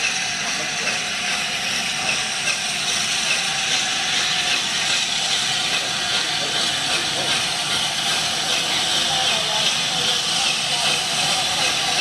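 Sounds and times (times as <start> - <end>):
steam hissing from locomotive: 0.0 - 12.0.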